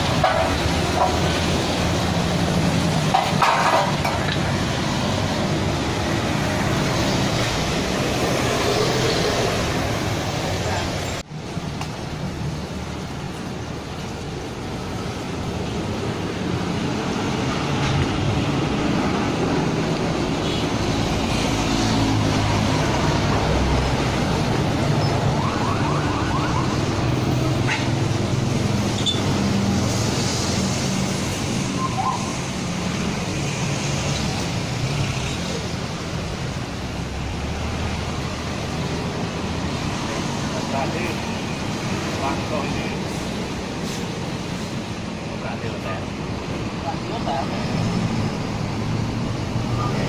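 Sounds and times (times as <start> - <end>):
road traffic noise: 0.0 - 50.0.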